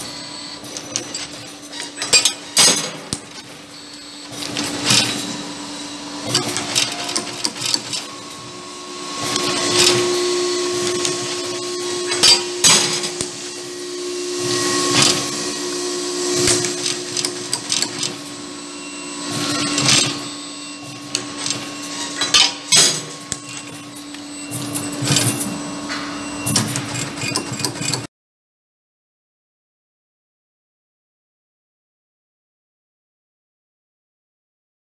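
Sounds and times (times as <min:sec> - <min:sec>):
machine drive hum and whine: 0:00.0 - 0:28.1.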